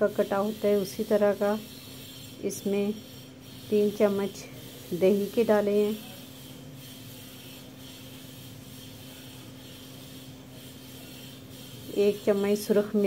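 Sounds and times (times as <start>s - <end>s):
room noise hum and hiss: 0.0s - 13.0s
soft rubbing scrapes: 0.0s - 13.0s.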